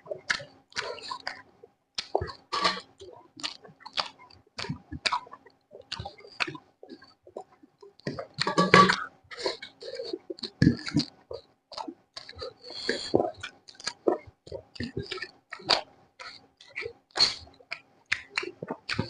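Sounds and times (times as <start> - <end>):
chewing and mouth noises: 0.0 - 19.0.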